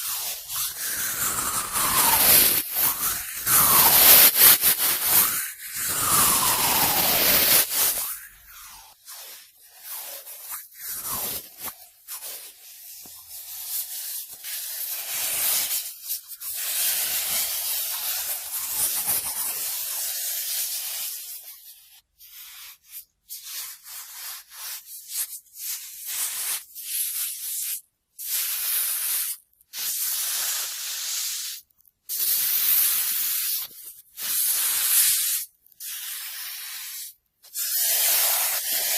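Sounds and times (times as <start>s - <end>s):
cotton swab rubbing microphone: 0.0s - 29.3s, 32.2s - 38.9s.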